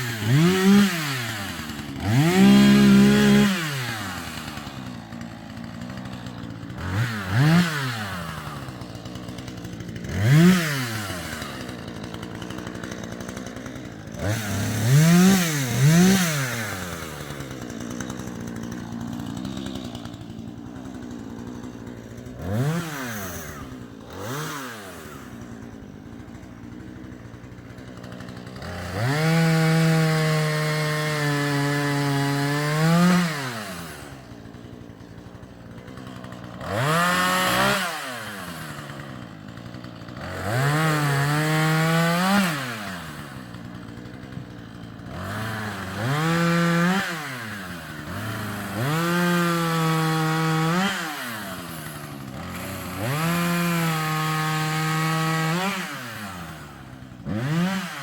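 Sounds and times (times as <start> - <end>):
chainsaw revving and idling: 0.0 - 58.0.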